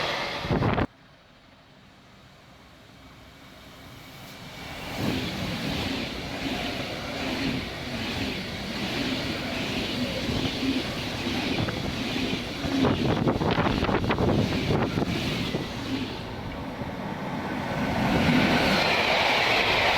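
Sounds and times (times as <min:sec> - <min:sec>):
train running past: 0:00.0 - 0:19.9.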